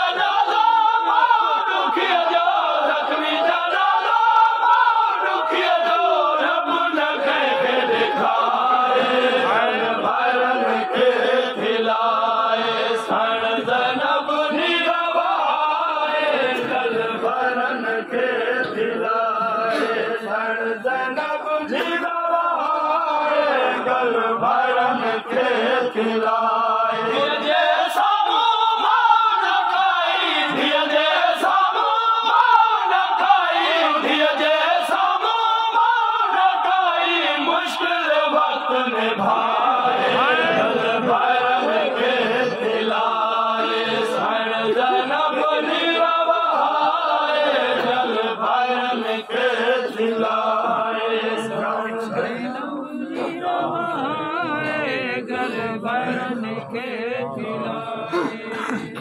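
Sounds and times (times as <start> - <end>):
men chanting a lament: 0.0 - 59.0.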